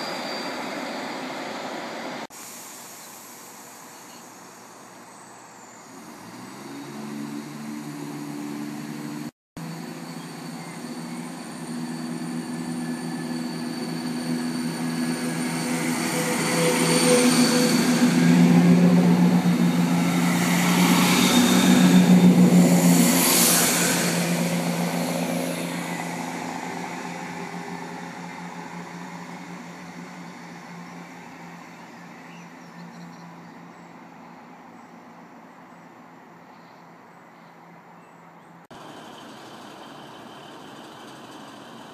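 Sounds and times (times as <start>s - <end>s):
diesel train passing: 0.0s - 2.4s, 3.4s - 35.7s, 37.6s - 41.9s.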